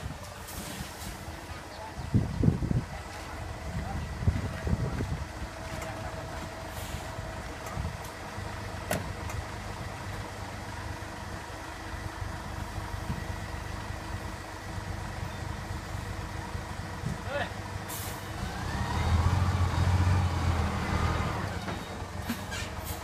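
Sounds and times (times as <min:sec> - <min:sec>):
truck engine running at low revs: 0:00.0 - 0:23.0.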